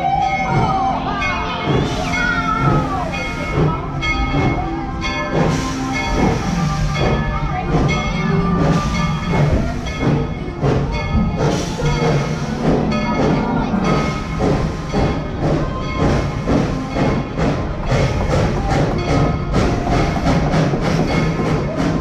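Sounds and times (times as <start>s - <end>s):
passenger train running: 0.0s - 22.0s.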